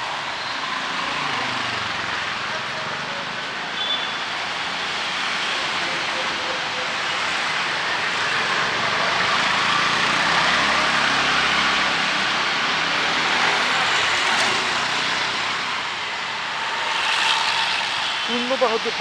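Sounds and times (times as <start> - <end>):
traffic hiss on wet street: 0.0 - 19.0
vehicle running close by: 0.3 - 4.0, 4.6 - 19.0.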